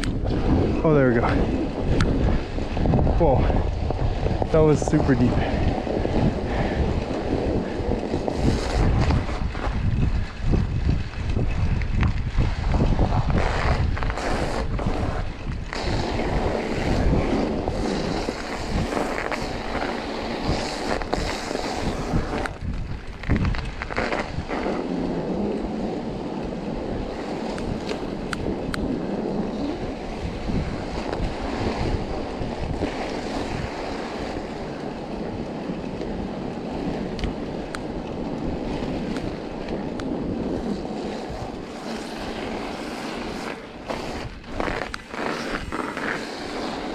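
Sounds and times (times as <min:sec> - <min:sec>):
tyres crunching through snow: 0:00.0 - 0:46.9
wind buffeting microphone: 0:00.0 - 0:46.9.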